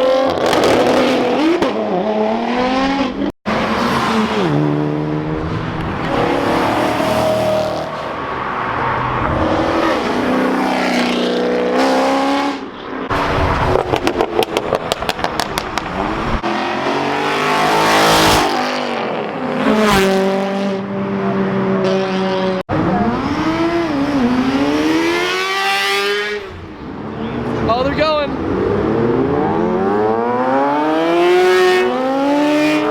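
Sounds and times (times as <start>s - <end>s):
car engines revving: 0.0s - 32.9s.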